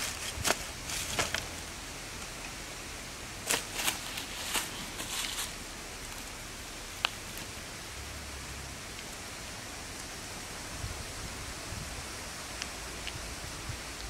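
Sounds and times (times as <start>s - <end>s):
background hiss: 0.0s - 14.0s
rustling in dry leaves: 0.0s - 14.0s.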